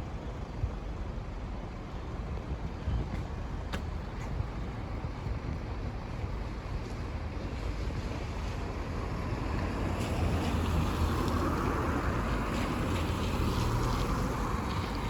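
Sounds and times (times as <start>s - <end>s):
wind buffeting microphone: 2.1s - 15.0s.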